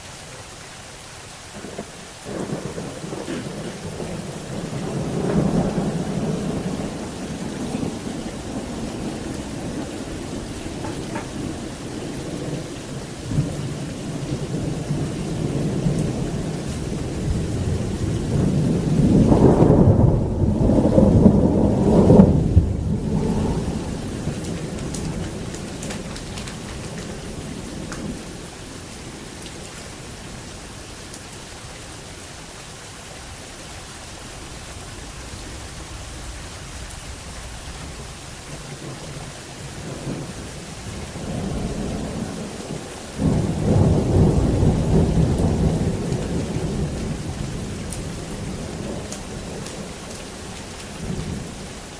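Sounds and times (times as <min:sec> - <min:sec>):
heavy rain falling: 0:00.0 - 0:51.9
thunder rumbling and cracking: 0:01.6 - 0:29.6, 0:35.2 - 0:51.7.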